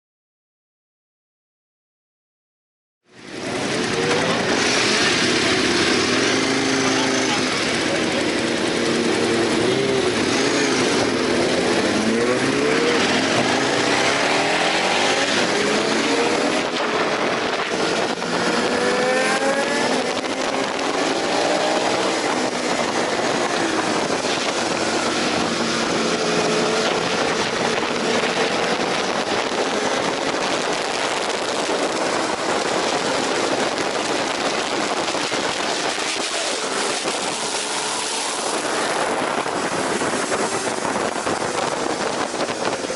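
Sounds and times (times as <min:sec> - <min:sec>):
motorcycle engine revving hard: 0:03.2 - 0:42.9
wind noise: 0:03.2 - 0:42.9.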